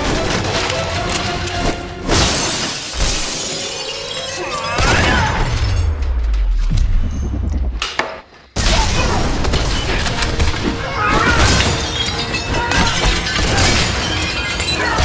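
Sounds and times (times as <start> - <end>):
shattering and crashing impacts: 0.0 - 6.5, 8.6 - 15.0.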